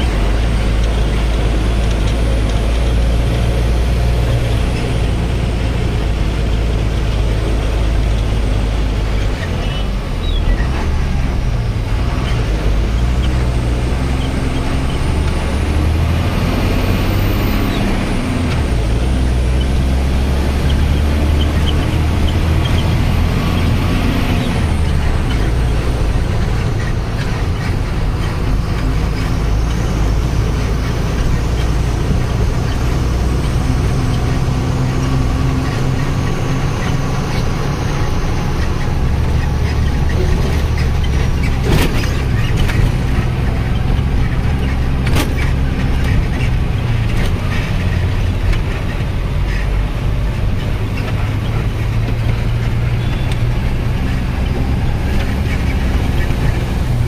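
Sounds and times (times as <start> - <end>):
road noise: 0.0 - 57.0
truck engine running: 0.0 - 57.0.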